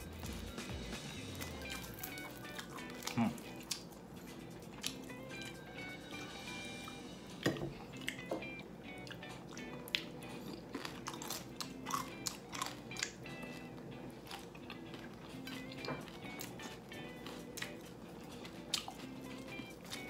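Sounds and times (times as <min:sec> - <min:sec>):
chewing crispy pork crunches: 0:00.0 - 0:05.5, 0:09.0 - 0:20.0
background music: 0:00.0 - 0:20.0.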